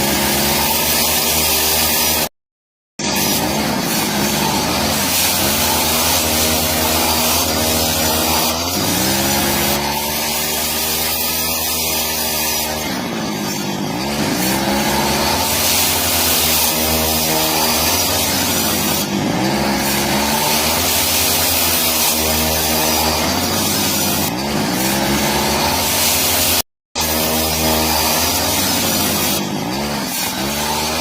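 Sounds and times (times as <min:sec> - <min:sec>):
power tool motor working wood: 0:00.0 - 0:02.3, 0:03.0 - 0:31.0.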